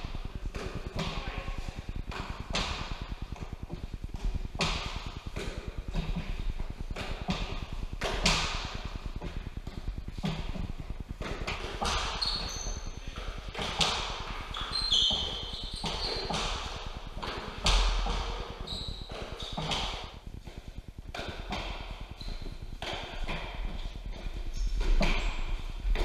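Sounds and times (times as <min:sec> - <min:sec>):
shoes squeaking on court floor: 0:00.0 - 0:20.6, 0:21.5 - 0:25.5.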